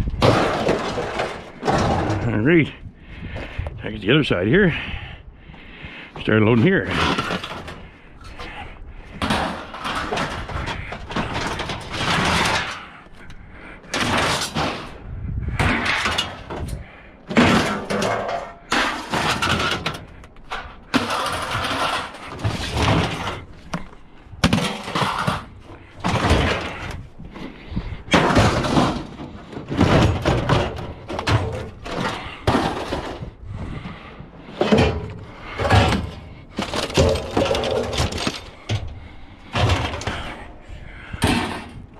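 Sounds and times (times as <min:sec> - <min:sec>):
sheet metal scraping and clattering: 0:00.0 - 0:02.8, 0:06.2 - 0:13.3, 0:13.9 - 0:23.8, 0:24.4 - 0:41.9.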